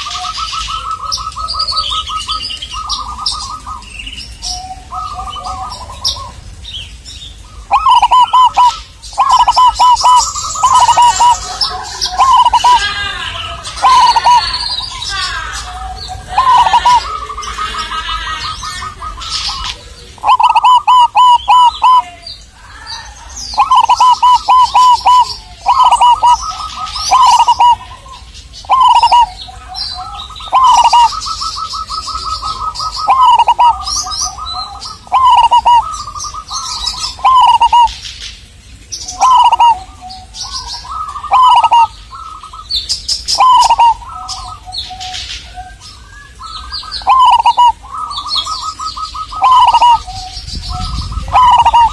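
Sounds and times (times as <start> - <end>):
dove rolling cooing: 0.0 - 6.8, 7.4 - 38.0, 39.0 - 51.9
small birds chirping: 0.0 - 51.9.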